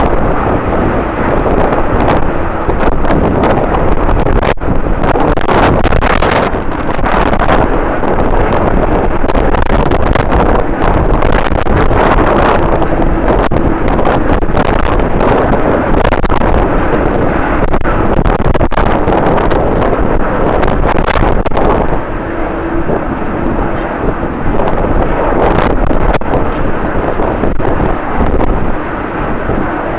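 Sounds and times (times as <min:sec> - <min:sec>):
jet aircraft engines: 0:00.0 - 0:29.9
wind blowing on microphone: 0:00.0 - 0:29.9.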